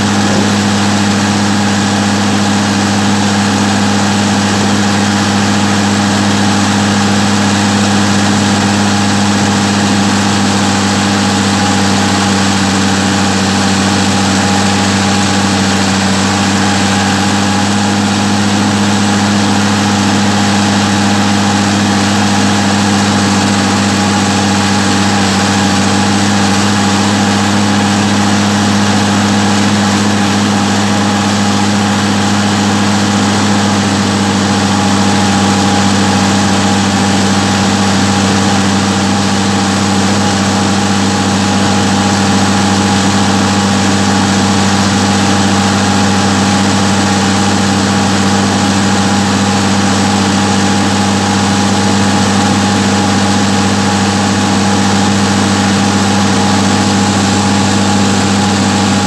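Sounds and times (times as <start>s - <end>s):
tractor diesel engine drone: 0.0s - 59.0s.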